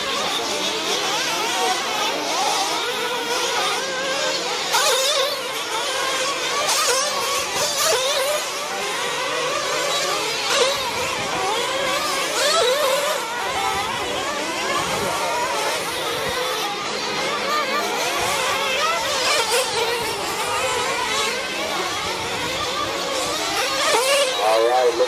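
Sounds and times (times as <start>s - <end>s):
rc truck engines revving: 0.0s - 25.0s.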